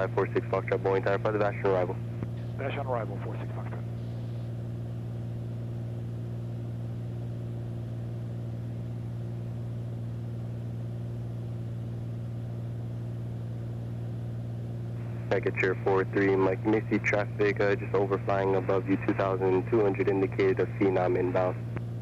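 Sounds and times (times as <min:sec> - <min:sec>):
aircraft engine and propeller droning: 0:00.0 - 0:22.0.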